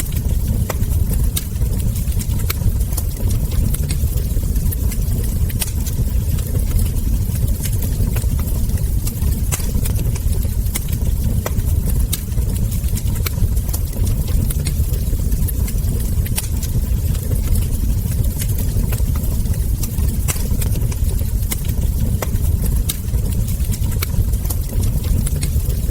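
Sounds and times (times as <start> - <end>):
low rumble: 0.0 - 25.9
wood fire crackling: 0.0 - 25.9.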